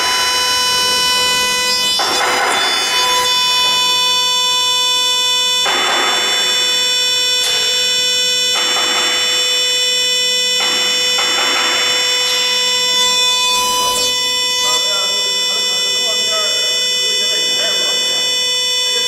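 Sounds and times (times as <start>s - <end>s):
hissing metal cutting noise: 0.0s - 19.0s
router spindle whine: 0.0s - 19.0s.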